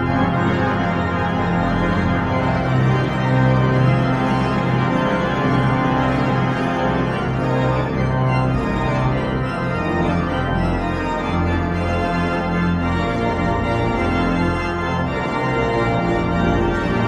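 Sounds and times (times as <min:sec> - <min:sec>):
pipe organ chords: 0:00.0 - 0:17.0.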